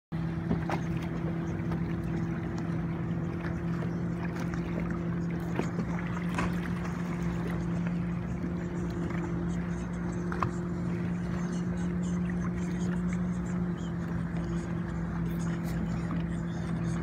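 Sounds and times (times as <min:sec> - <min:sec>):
water: 0:00.1 - 0:17.0
wind: 0:00.1 - 0:17.0
boat engine idling: 0:00.2 - 0:17.0.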